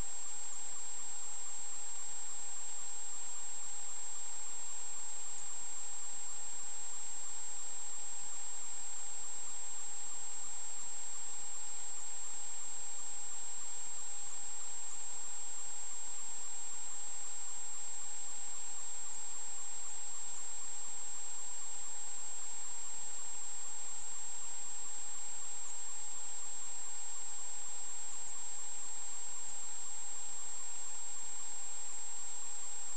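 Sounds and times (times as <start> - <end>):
constant hiss: 0.0 - 32.9.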